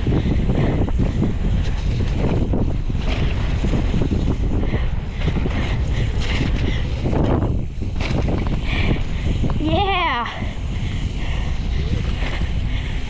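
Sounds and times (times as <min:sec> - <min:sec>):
mountain bike rumble and rattle: 0:00.0 - 0:13.0
wind buffeting microphone: 0:00.0 - 0:13.0.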